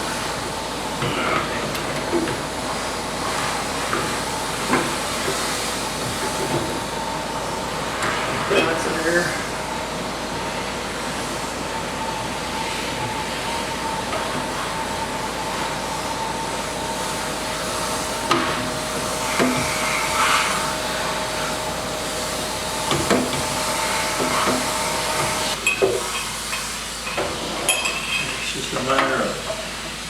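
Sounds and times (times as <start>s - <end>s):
machine hiss and hum: 0.0s - 30.0s.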